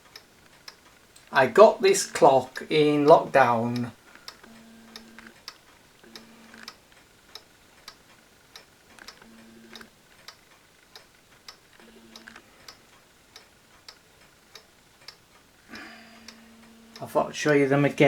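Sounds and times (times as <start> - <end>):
faint low hum: 0.0 - 18.0
pendulum clocks ticking: 0.0 - 18.0.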